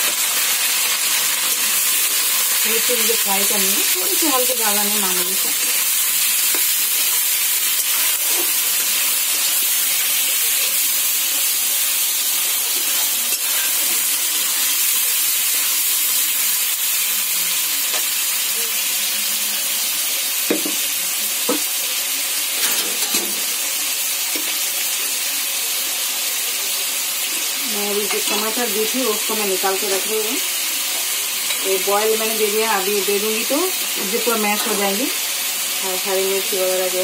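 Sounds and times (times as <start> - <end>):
food sizzling in a wok: 0.0 - 37.0.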